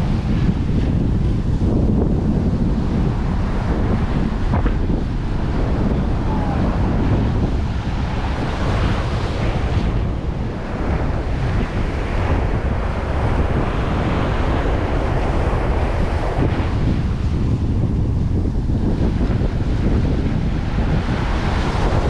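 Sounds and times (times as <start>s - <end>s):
surf on sandy beach: 0.0s - 22.0s
wind buffeting microphone: 0.0s - 22.0s.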